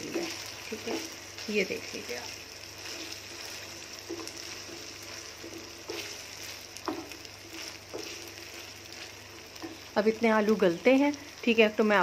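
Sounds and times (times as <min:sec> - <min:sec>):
wooden spoon scraping a pan: 0:00.0 - 0:10.0
meat and potatoes sizzling in a wok: 0:00.0 - 0:12.0.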